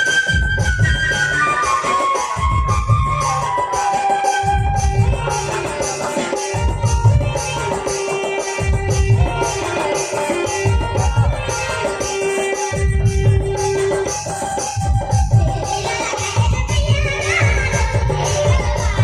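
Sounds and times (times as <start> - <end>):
fast drumming: 0.0 - 19.0
folk-style music: 0.0 - 19.0.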